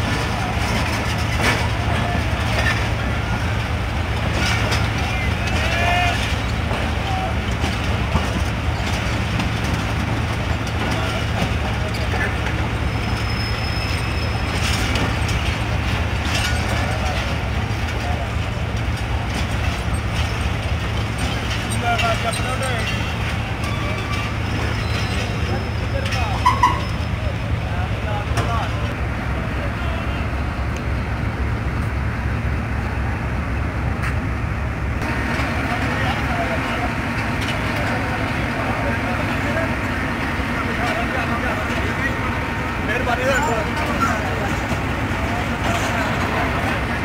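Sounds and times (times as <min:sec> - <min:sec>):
train coaches rumbling: 0:00.0 - 0:47.0.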